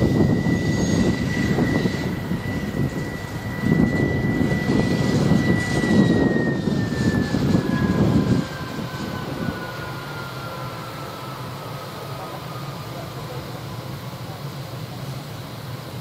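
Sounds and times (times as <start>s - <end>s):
freight train rumbling: 0.0s - 16.0s
locomotive whine: 0.0s - 16.0s.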